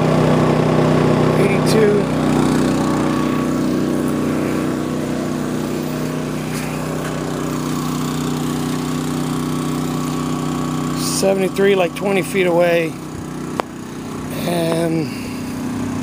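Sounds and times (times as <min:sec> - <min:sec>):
generator engine drone: 0:00.0 - 0:16.0.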